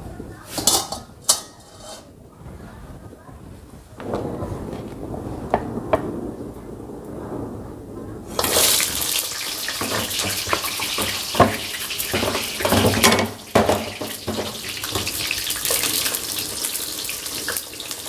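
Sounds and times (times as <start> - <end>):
frying in oil with crackles: 0.0 - 18.0.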